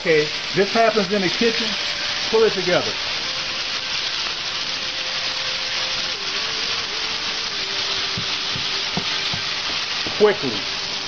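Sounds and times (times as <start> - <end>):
burger patty sizzling in oil: 0.0 - 11.0.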